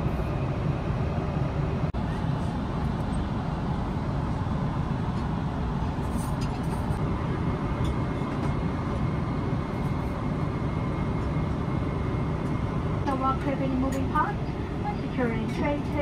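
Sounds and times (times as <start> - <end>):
airliner cabin engine roar: 0.0 - 16.0
faint steady whine: 0.0 - 16.0.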